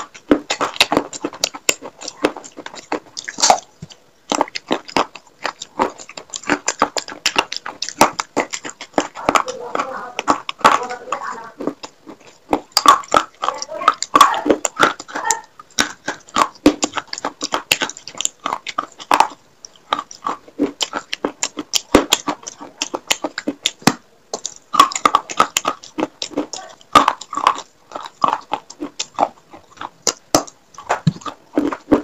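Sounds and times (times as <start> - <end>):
crunching clay pieces: 0.0 - 32.0.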